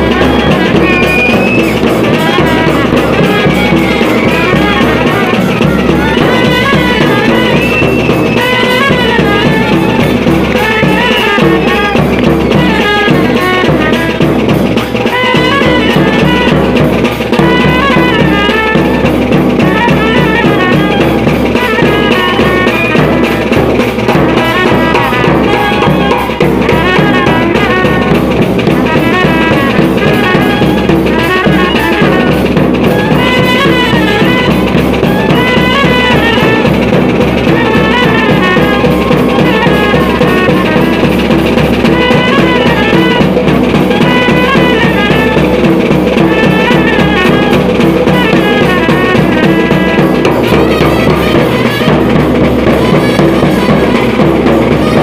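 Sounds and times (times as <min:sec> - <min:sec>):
driving drum beat: 0:00.0 - 0:55.0
loud band music: 0:00.0 - 0:55.0.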